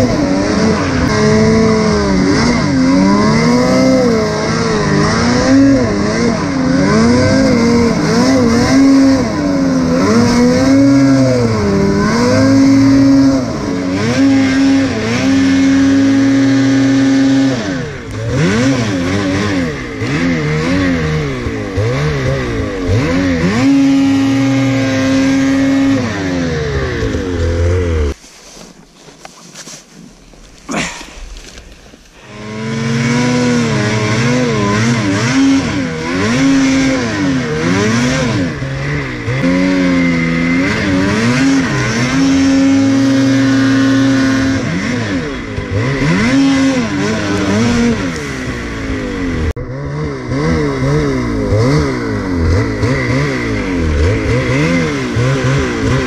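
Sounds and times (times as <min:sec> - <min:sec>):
snowmobile engine revving: 0:00.0 - 0:28.2, 0:29.4 - 0:56.0.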